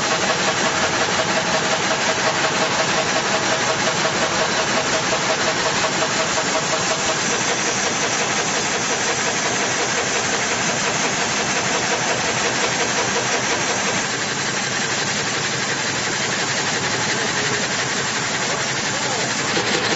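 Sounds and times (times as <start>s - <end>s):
gang saw running: 0.0s - 19.9s.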